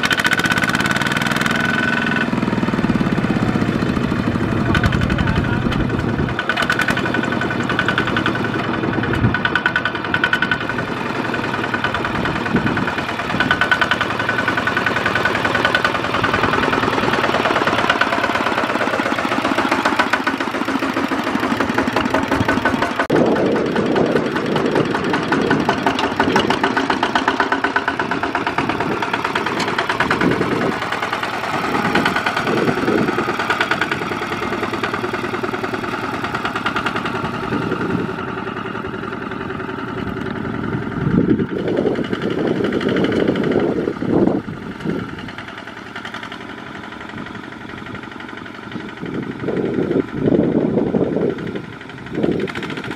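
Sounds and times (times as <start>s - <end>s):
diesel tractor engine under load: 0.0s - 52.9s.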